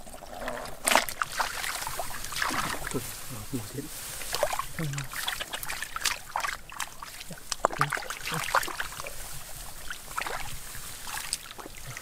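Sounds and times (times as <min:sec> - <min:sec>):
mud squelching: 0:00.0 - 0:12.0
hands splashing in muddy water: 0:00.6 - 0:03.3, 0:04.0 - 0:12.0.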